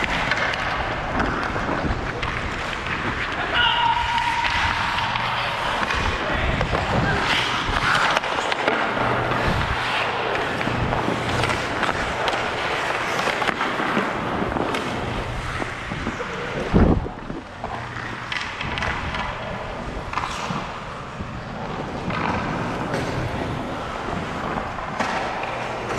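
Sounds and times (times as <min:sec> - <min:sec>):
skate blades scraping on ice: 0:00.0 - 0:25.9.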